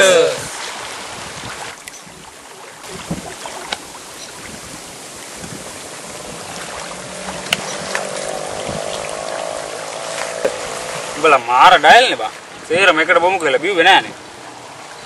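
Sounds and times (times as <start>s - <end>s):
choppy water: 0.0s - 15.0s
wind: 0.0s - 15.0s.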